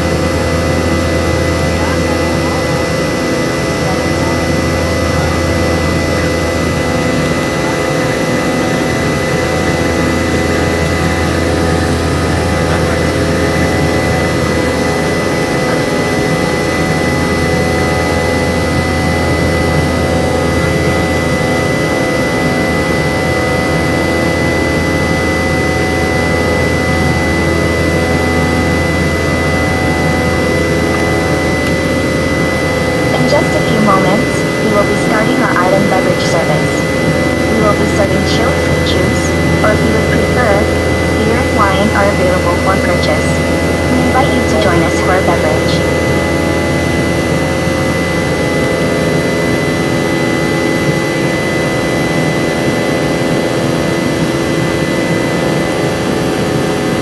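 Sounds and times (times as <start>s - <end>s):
high whine: 0.0s - 57.0s
jet engine noise: 0.0s - 57.0s
low hum: 0.0s - 57.0s.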